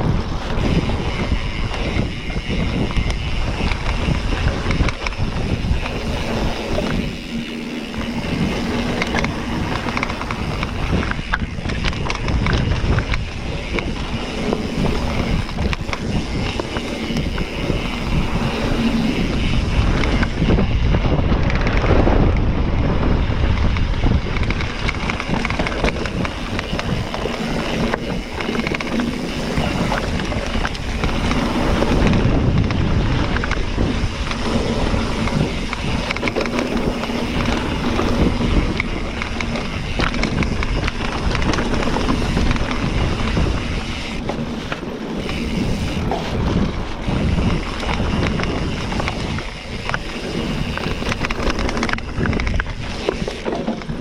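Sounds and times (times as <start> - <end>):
bike knocks and rattles: 0.0 - 54.0
bike tyres on dirt trail: 0.0 - 54.0
wind rushing over microphone: 0.0 - 54.0.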